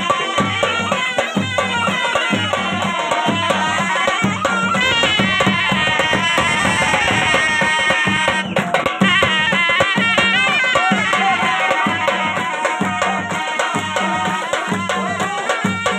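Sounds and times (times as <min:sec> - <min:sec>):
steady drum beat: 0:00.0 - 0:15.9.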